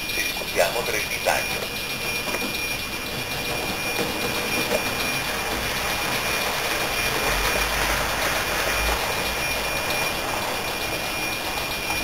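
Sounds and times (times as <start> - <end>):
high steady whine: 0.0 - 12.0
train rushing noise: 0.0 - 12.0.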